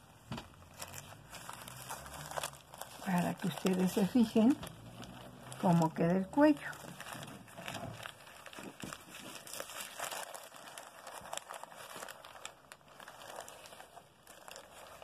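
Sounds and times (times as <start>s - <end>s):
fabric and paper rustling: 0.0s - 15.0s.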